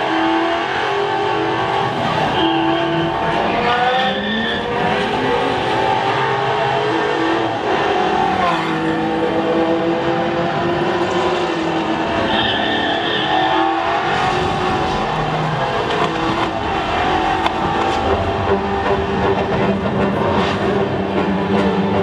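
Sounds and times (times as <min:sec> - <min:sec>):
race car engine revving: 0:00.0 - 0:22.0.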